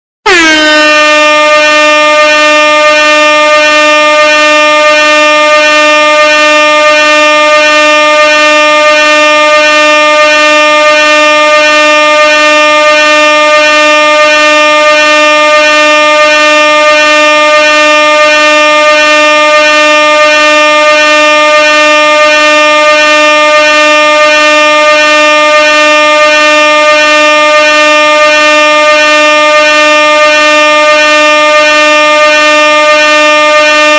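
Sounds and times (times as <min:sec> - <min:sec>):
air horn blast: 0:00.2 - 0:33.9.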